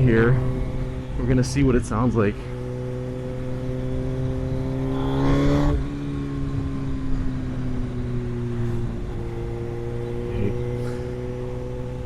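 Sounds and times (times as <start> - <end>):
low wind rumble: 0.0 - 12.0
motorcycle engine revving: 0.0 - 12.0.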